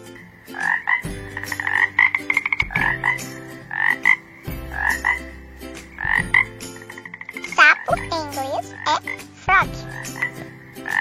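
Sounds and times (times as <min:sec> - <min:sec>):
low background music tones: 0:00.0 - 0:11.0
frog croaking: 0:00.1 - 0:11.0.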